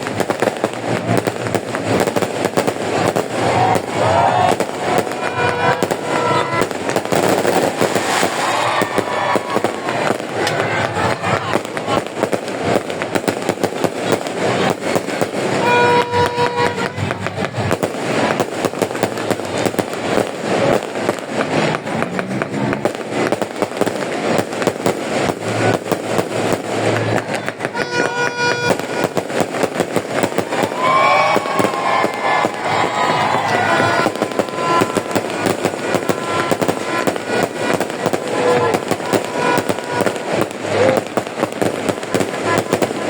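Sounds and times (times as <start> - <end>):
fireworks cracking and popping: 0.0 - 43.0.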